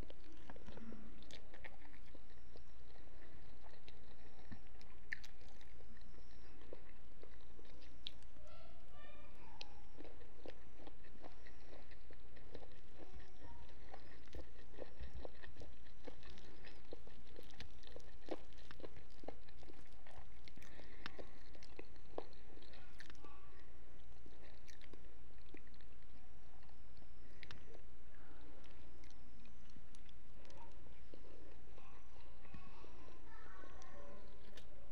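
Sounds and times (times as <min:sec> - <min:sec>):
close chewing with mouth clicks: 0:00.0 - 0:34.9.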